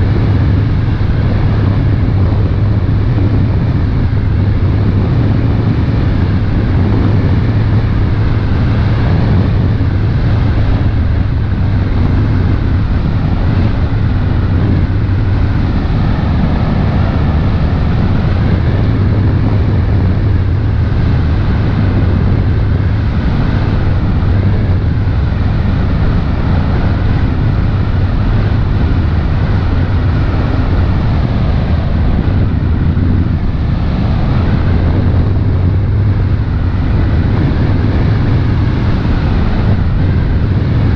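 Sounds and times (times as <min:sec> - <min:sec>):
boat engine droning: 0:00.0 - 0:40.9
wind on microphone: 0:00.0 - 0:40.9.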